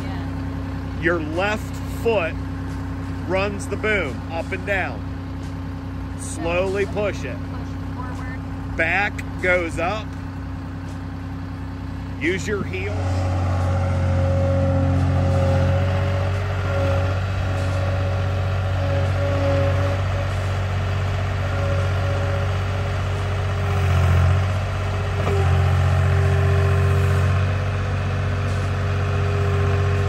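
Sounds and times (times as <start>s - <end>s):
skid steer engine running: 0.0s - 30.0s
hydraulic whine: 0.2s - 27.7s.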